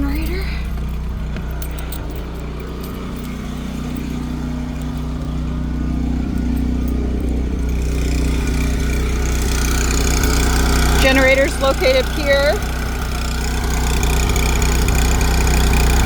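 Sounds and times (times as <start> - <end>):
generator humming: 0.0 - 16.0.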